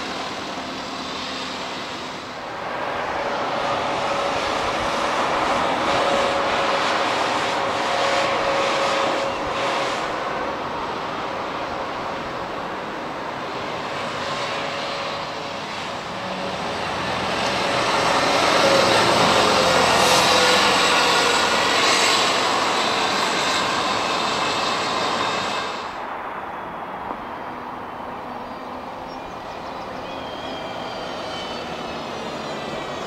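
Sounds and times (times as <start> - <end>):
bus engine whine: 0.0 - 33.0
tyre and road noise: 0.0 - 33.0.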